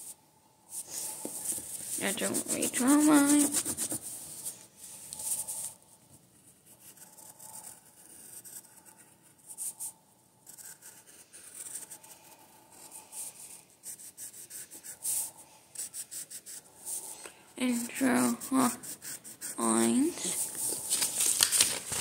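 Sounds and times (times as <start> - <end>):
pencil scratching on paper: 0.7 - 5.8, 6.4 - 21.1.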